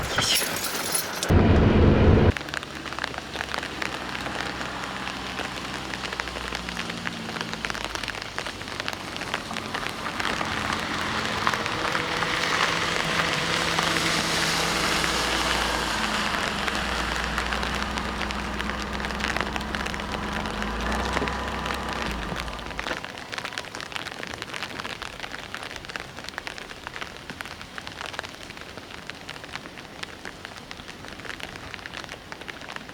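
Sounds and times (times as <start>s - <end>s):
heavy rain on hard surface: 0.6s - 32.9s.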